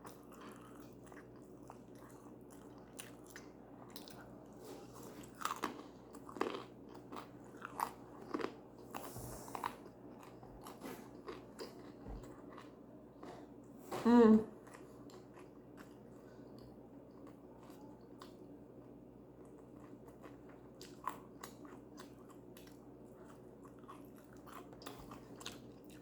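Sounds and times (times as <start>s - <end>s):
person chewing food: 0.0s - 13.8s, 14.6s - 26.0s.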